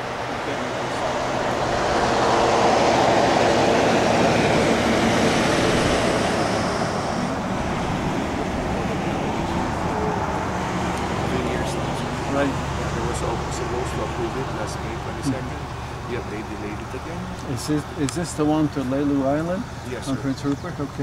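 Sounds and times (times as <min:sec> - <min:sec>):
vehicle passing by: 0:00.0 - 0:20.5.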